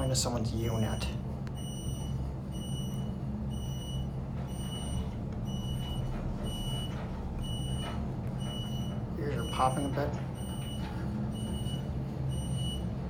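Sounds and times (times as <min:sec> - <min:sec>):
elevator low hum: 0:00.0 - 0:13.0.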